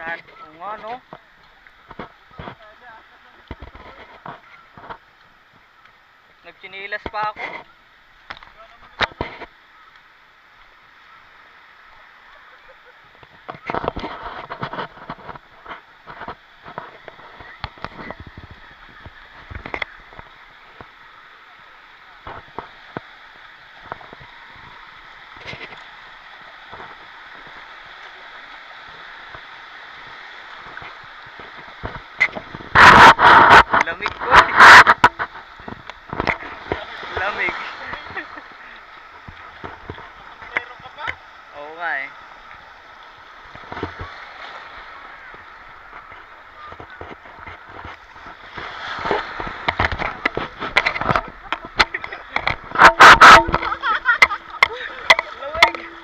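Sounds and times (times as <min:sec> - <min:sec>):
small waves washing on sand: 0:00.0 - 0:56.0
steady hiss of water: 0:00.0 - 0:56.0
feet wading through surf: 0:06.4 - 0:56.0.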